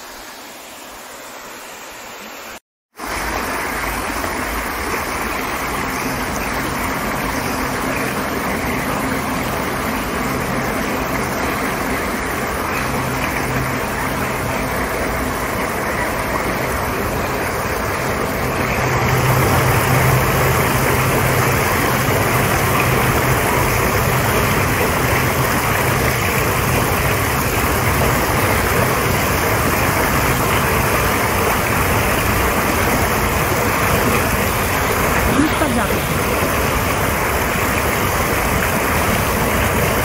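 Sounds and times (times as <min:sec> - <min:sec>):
low hum: 0:03.0 - 0:40.0.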